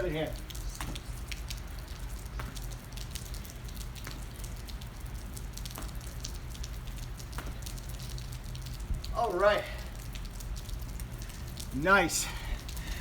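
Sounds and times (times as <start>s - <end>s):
rain pattering and dripping: 0.0s - 13.0s
steady low rumble: 0.0s - 13.0s.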